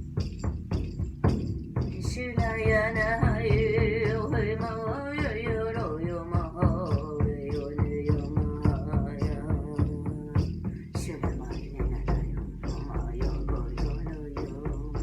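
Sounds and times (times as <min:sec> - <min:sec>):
steady drumming: 0:00.0 - 0:15.0.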